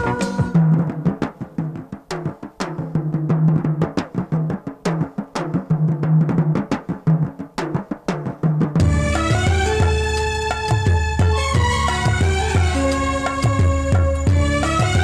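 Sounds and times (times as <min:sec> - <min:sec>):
rapid film score drumming: 0:00.0 - 0:15.0.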